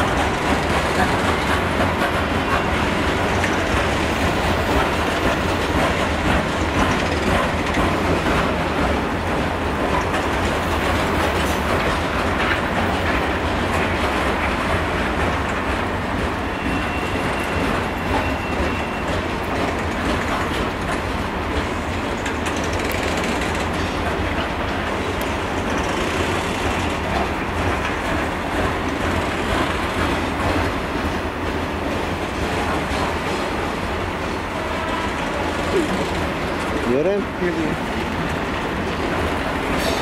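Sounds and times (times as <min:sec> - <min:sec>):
freight train rolling past: 0:00.0 - 0:40.0.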